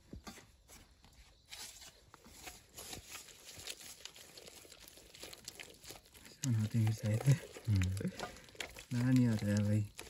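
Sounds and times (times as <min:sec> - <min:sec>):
rustling and crinkling: 0:00.0 - 0:10.0.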